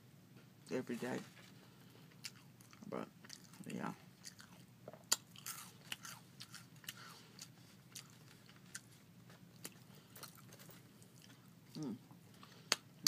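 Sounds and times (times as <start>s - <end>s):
person chewing crackers: 2.0s - 13.0s.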